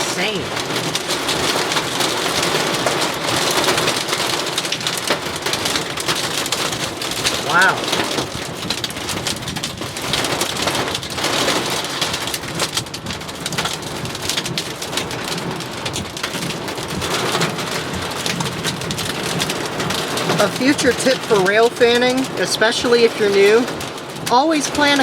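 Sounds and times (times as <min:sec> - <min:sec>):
heavy rain pelting down: 0:00.0 - 0:25.0.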